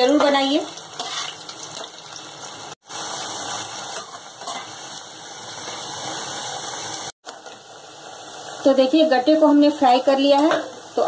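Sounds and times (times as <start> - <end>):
dumplings sizzling in hot oil: 0.0 - 11.0.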